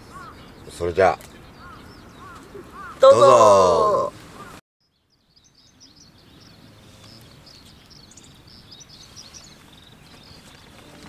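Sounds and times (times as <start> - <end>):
small birds chirping: 0.0 - 3.2, 3.9 - 11.0.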